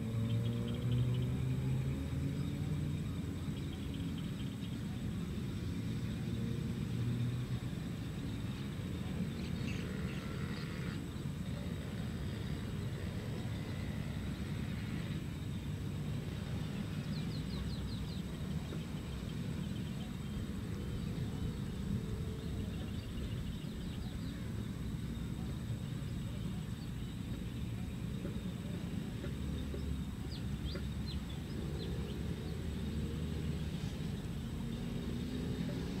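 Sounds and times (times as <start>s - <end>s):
birds chirping: 0.0s - 36.0s
low steady rumble: 0.0s - 36.0s.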